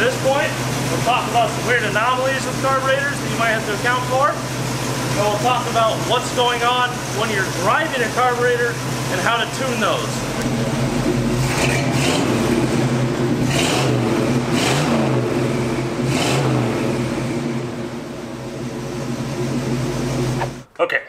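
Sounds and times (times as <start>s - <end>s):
engine throttle blips: 0.0s - 20.6s
truck engine idling: 0.0s - 20.6s.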